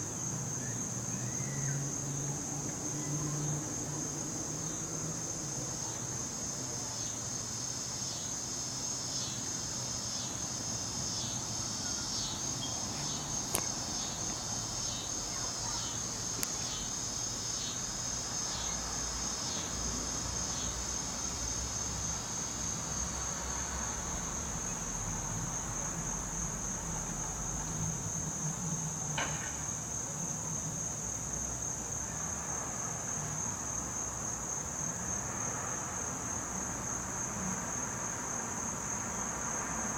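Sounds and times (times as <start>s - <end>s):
crickets chorus: 0.0s - 39.9s.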